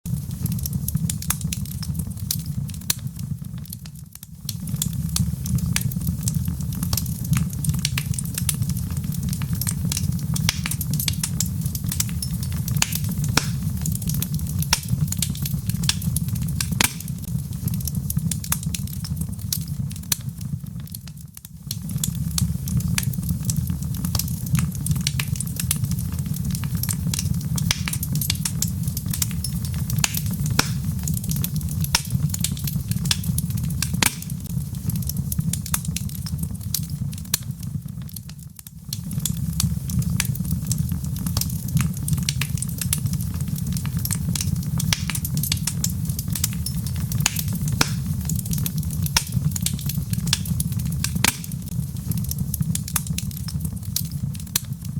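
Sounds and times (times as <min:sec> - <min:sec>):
logs crackling and popping: 0:00.1 - 0:54.9
low rumble of flames: 0:00.1 - 0:54.9.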